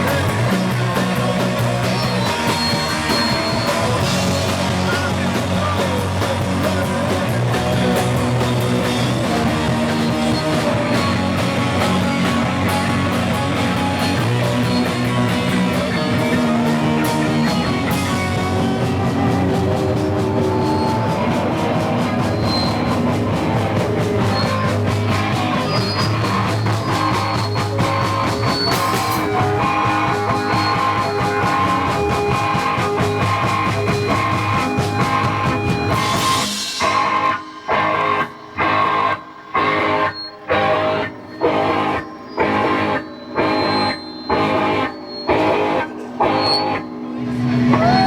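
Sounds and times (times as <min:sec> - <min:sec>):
punk rock band playing: 0:00.0 - 0:48.0.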